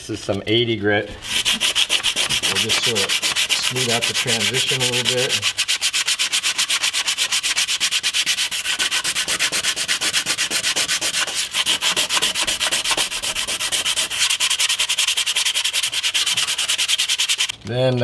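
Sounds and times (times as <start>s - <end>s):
sandpaper rubbing back and forth: 1.2s - 17.5s.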